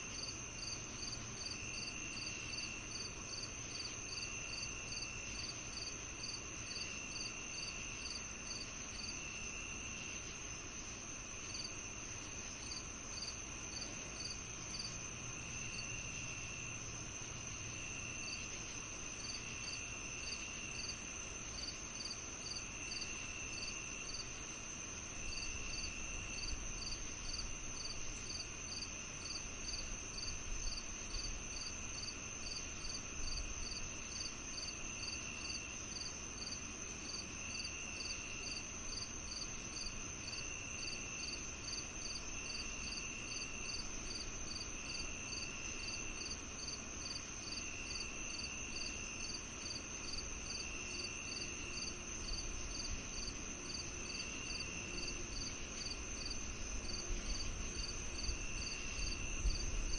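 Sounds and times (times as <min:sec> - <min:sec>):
lower insect trill: 0:00.0 - 0:59.9
quick cricket chirps: 0:00.1 - 0:59.9
high-pitched insect trill: 0:11.4 - 0:59.9.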